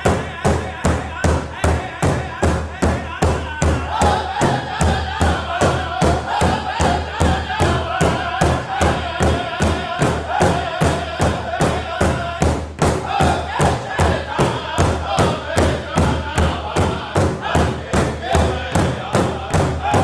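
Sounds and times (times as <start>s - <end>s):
large drum beating: 0.0s - 20.0s
men singing as a group: 0.0s - 20.0s.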